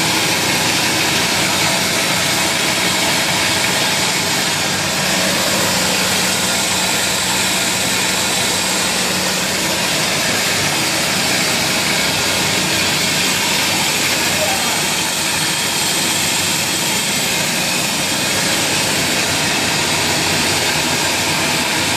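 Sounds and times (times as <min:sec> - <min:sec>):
machine humming and rushing: 0:00.0 - 0:21.9.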